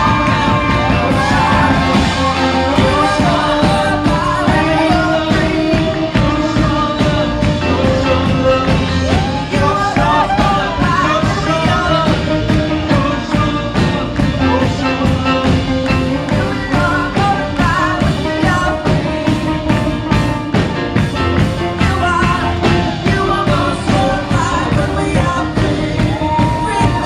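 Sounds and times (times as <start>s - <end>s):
band playing driving beat: 0.0s - 27.0s
voices singing: 0.0s - 27.0s.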